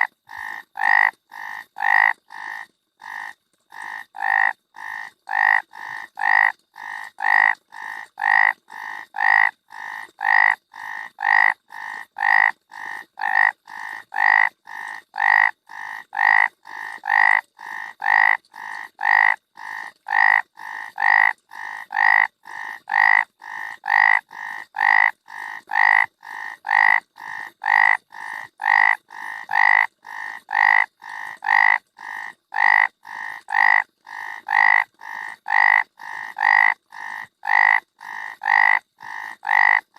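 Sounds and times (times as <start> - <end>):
frog croaking: 0.0 - 39.9.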